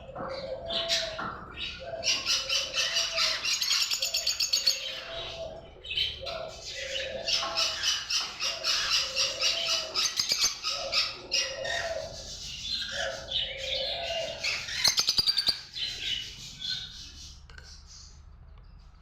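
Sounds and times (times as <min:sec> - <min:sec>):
lovebirds chirping: 0:00.0 - 0:18.8.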